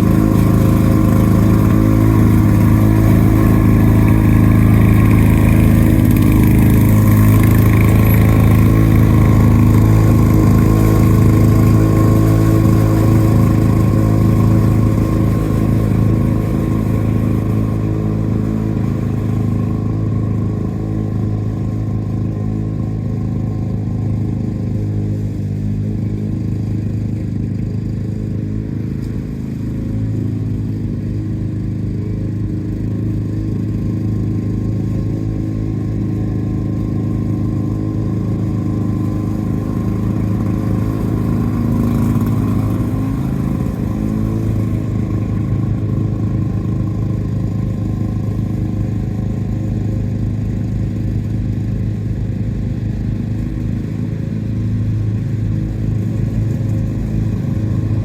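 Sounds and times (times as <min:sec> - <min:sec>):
push mower engine running: 0:00.0 - 0:58.0.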